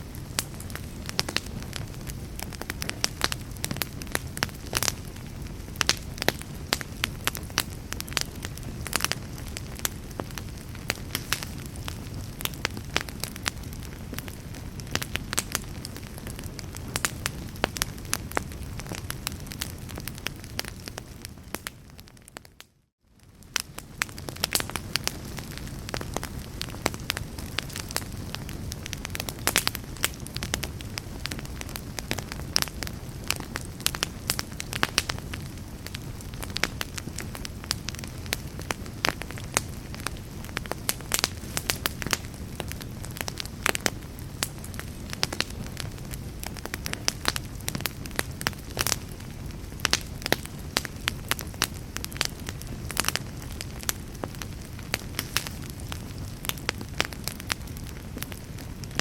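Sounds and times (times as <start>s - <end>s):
fire low rumble: 0.0s - 59.0s
logs crackling and snapping: 0.1s - 22.6s, 23.4s - 59.0s.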